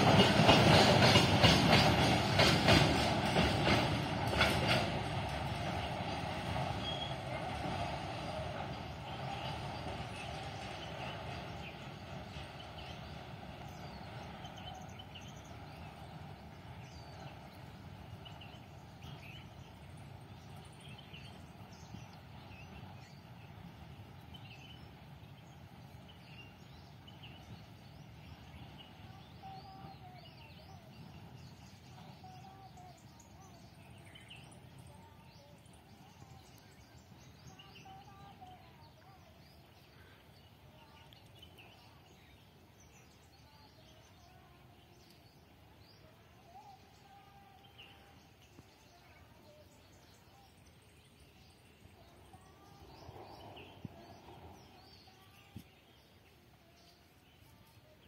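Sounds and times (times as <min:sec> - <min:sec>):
distant low rumble: 0:00.0 - 0:58.0
small birds chirping: 0:08.6 - 0:58.0.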